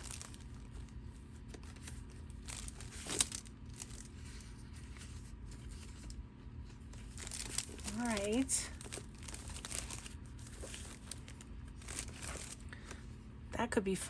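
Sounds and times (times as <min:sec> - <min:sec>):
paper cards rustling: 0:00.0 - 0:06.2, 0:06.8 - 0:12.9.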